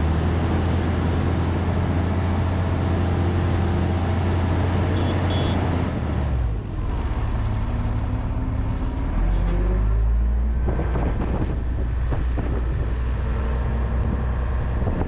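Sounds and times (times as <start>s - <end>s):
haul truck diesel engine: 0.0s - 15.0s.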